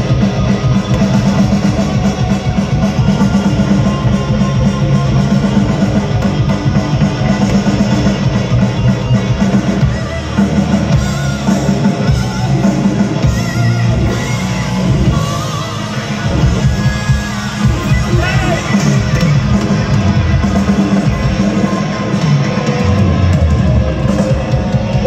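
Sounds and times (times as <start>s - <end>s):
bass guitar: 0.0s - 25.0s
distorted electric guitars: 0.0s - 25.0s
drum kit: 0.0s - 25.0s.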